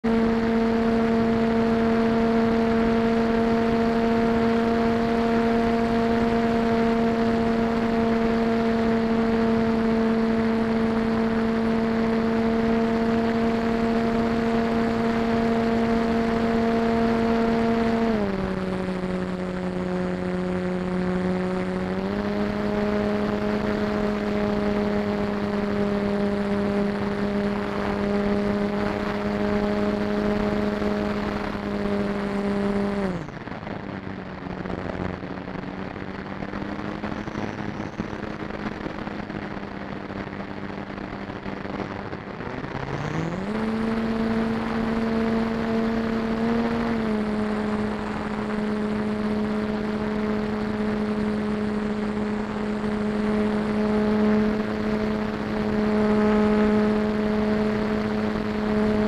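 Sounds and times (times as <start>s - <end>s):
model airplane motor drone: 0.0s - 59.0s.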